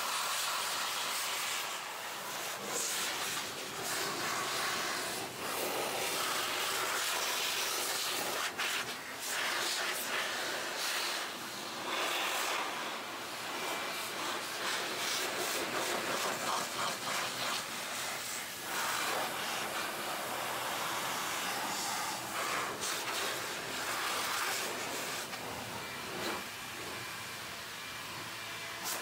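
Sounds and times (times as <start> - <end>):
rushing air hiss: 0.0 - 27.0.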